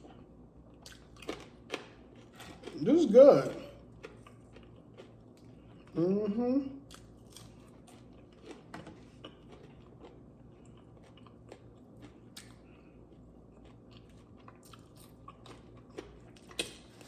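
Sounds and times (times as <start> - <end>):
food crunching: 0.0 - 6.0, 6.8 - 17.0
person chewing food: 0.0 - 6.0, 6.8 - 17.0.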